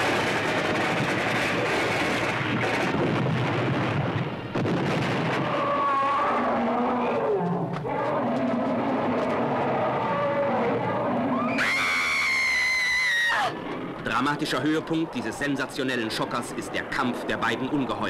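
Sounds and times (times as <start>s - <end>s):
explosion and commotion noise: 0.0s - 18.0s.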